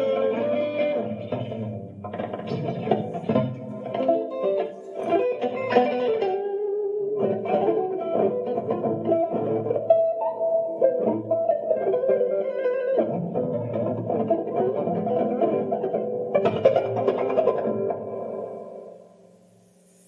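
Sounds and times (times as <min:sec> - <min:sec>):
harp guitar picked chords: 0:00.0 - 0:18.9.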